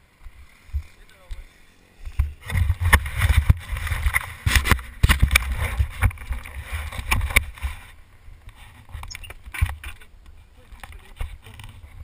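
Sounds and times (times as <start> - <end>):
dirt bike engine at low speed: 0.0 - 12.0.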